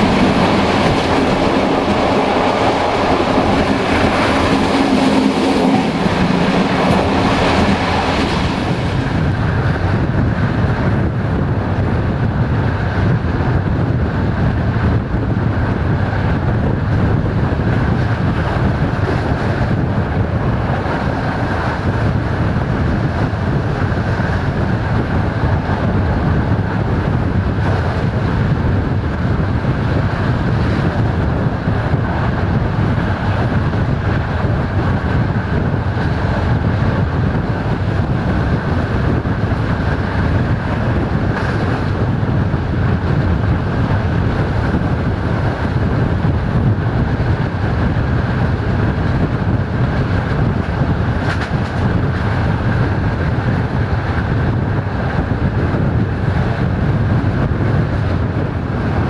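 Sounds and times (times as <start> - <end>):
moving train rumbling: 0.0 - 59.0
wind buffeting microphone: 0.0 - 59.0.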